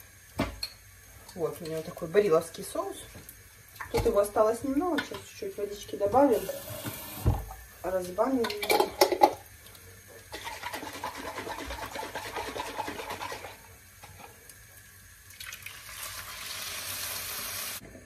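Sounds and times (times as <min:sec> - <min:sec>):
water running from a tap: 0:00.0 - 0:17.8.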